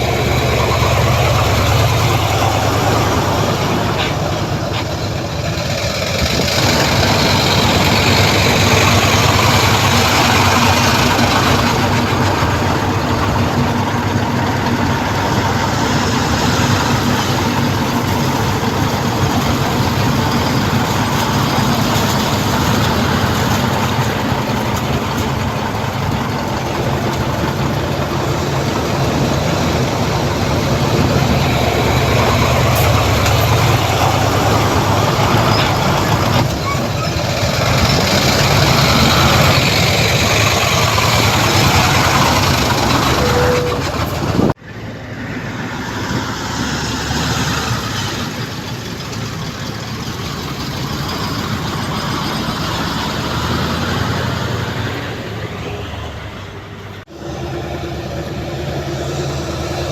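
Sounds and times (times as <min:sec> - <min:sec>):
heavy diesel machinery engines: 0:00.0 - 0:59.9.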